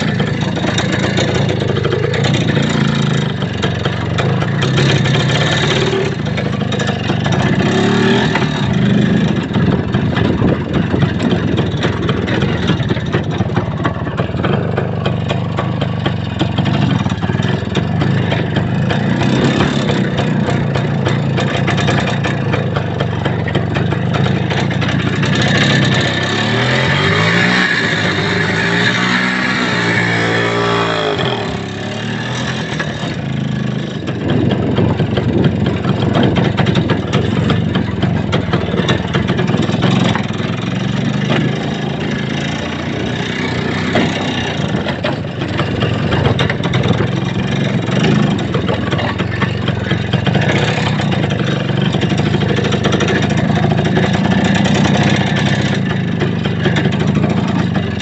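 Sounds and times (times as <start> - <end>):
road and body noise: 0.0 - 58.0
vehicle engine running: 0.0 - 58.0.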